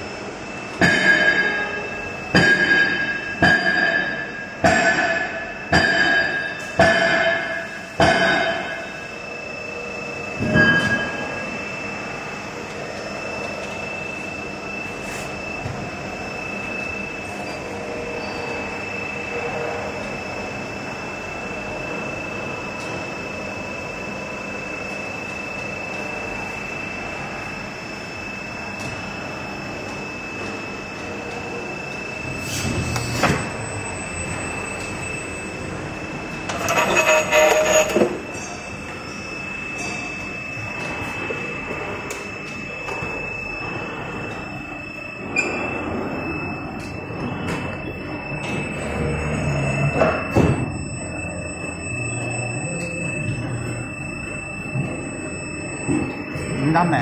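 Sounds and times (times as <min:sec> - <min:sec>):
high steady whine: 0:00.0 - 0:57.0
injection moulding machine running: 0:00.0 - 0:57.0.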